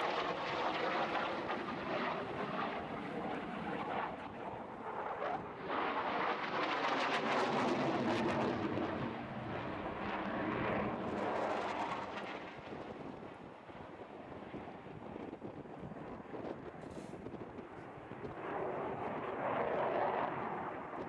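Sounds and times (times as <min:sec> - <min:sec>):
crackling jet noise: 0:00.0 - 0:21.0.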